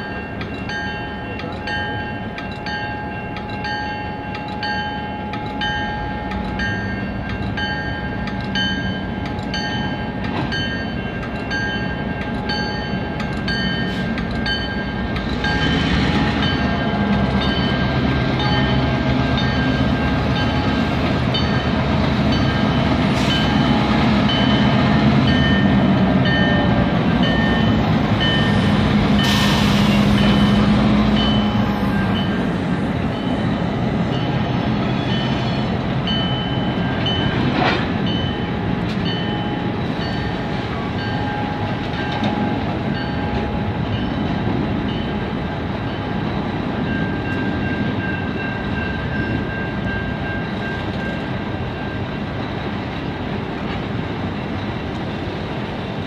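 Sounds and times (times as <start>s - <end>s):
crossing warning bell ringing: 0.0s - 56.0s
diesel locomotives rumbling past: 0.0s - 56.0s.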